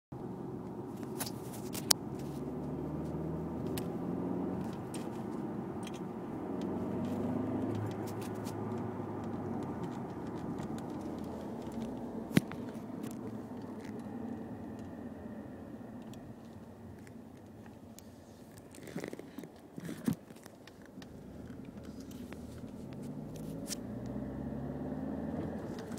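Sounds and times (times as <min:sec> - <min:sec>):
car engine revving: 0:00.3 - 0:17.6, 0:21.0 - 0:25.9.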